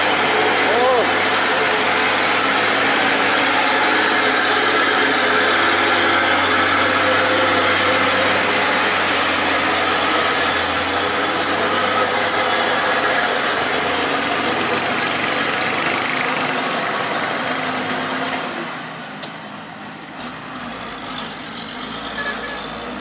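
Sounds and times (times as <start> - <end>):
truck diesel engine under load: 0.0 - 23.0.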